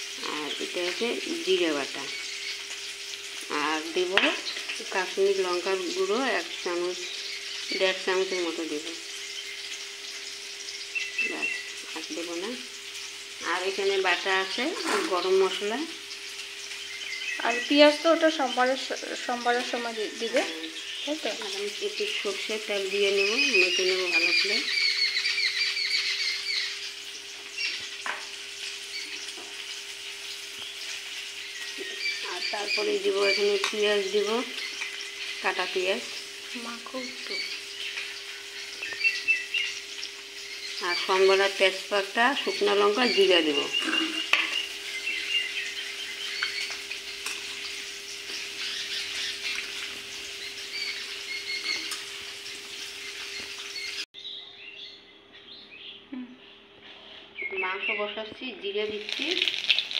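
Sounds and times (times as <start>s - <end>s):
frying sizzle: 0.0s - 54.1s, 57.6s - 59.9s
bird chirps: 0.2s - 12.5s, 16.5s - 28.0s, 28.8s - 58.4s.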